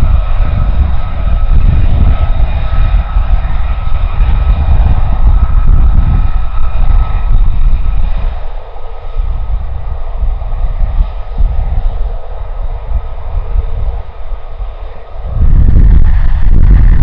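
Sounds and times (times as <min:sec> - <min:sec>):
faint engine whine: 0:00.0 - 0:17.0
jet engine rumble: 0:00.0 - 0:17.0.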